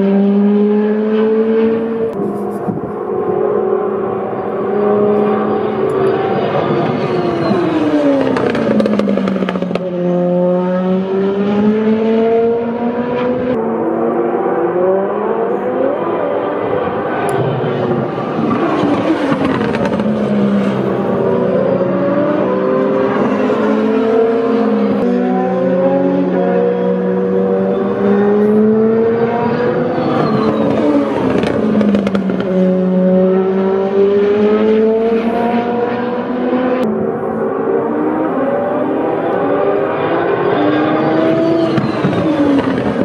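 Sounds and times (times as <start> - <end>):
race car engines passing: 0.0 - 43.0.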